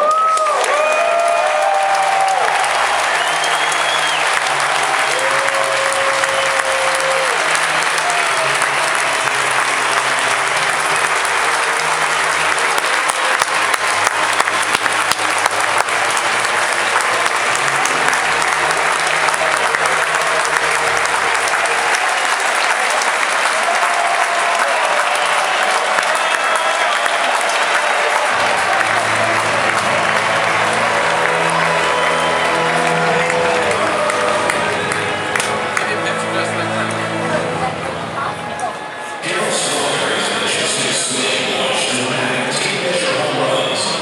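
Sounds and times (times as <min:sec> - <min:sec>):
crowd applauding: 0:00.0 - 0:44.0.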